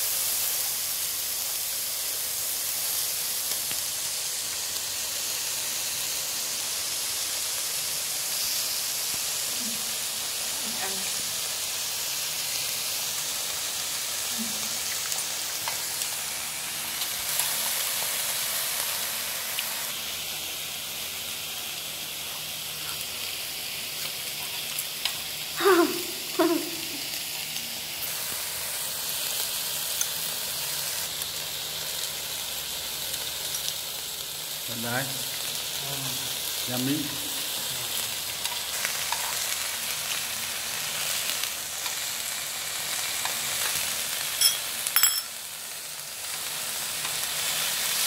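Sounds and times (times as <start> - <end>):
meat sizzling on a pan: 0.0 - 48.0.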